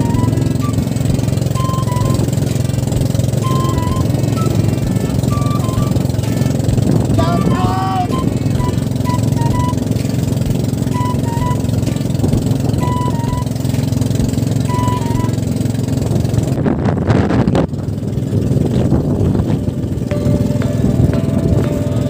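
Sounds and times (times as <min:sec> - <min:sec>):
melody of short high notes: 0:00.0 - 0:15.8, 0:20.1 - 0:22.0
engine running low drone: 0:00.0 - 0:22.0.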